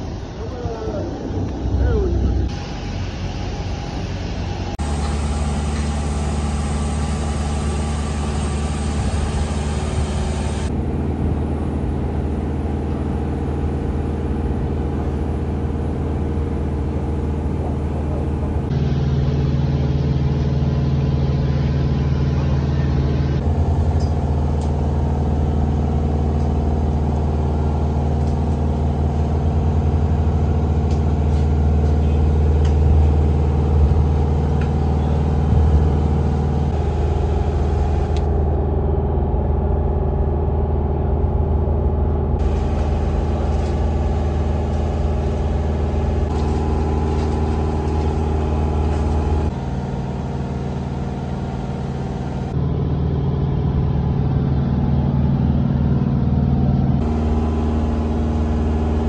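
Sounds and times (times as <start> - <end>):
idling machinery engine hum: 0.0 - 59.0.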